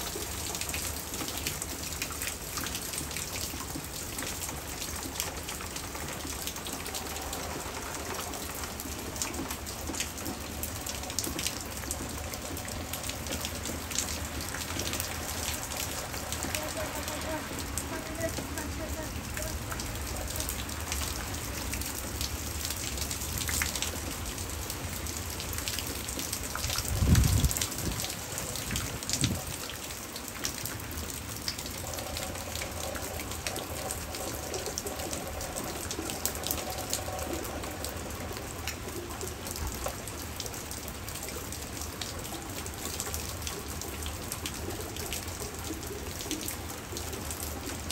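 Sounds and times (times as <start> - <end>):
hard rain hissing: 0.0 - 47.9
raindrops ticking close by: 0.0 - 47.9.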